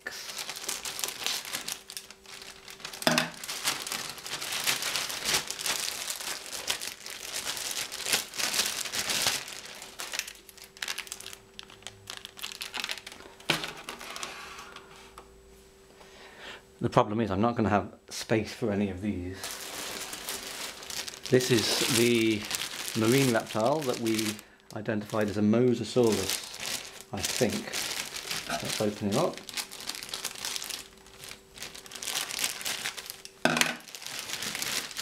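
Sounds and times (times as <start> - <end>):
plastic bag crinkling: 0.0 - 14.3, 19.3 - 35.0.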